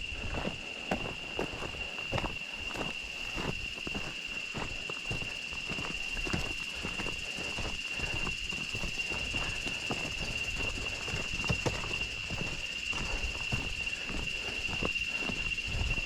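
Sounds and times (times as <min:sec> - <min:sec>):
footsteps walking: 0:00.0 - 0:16.0
high-pitched insect buzz: 0:00.0 - 0:16.0.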